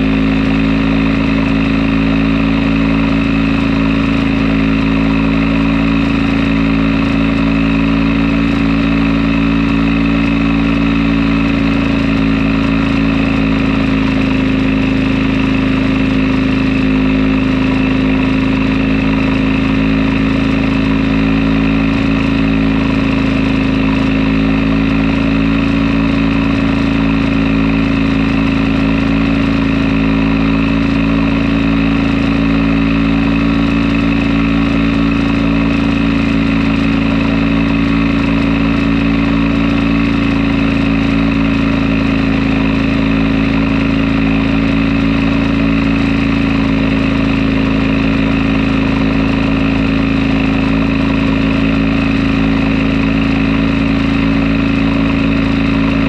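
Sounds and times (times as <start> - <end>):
two-stroke engine running generator: 0.0 - 56.0.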